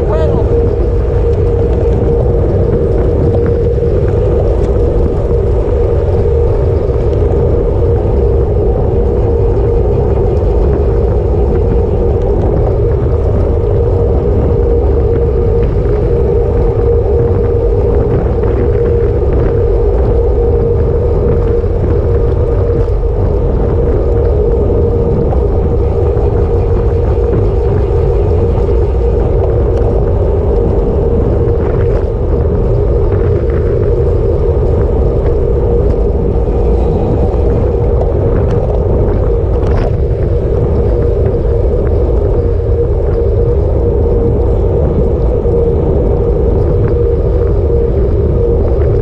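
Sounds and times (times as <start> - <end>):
constant hum: 0.0 - 49.0
wind rumble on microphone: 0.0 - 49.0.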